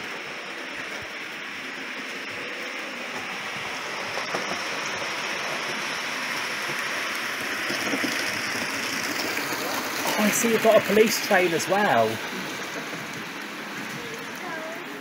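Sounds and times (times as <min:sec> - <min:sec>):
model train whirring rumble: 0:00.0 - 0:15.0.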